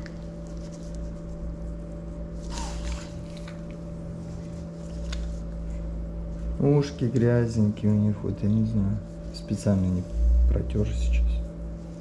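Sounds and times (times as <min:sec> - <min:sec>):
electrical hum of equipment: 0:00.0 - 0:12.0.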